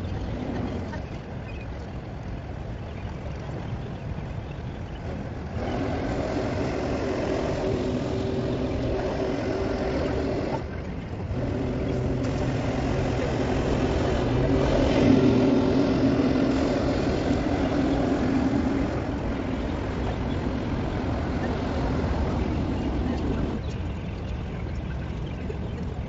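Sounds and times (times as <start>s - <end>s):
steady engine hum: 0.0s - 26.0s
low rumble: 3.4s - 26.0s.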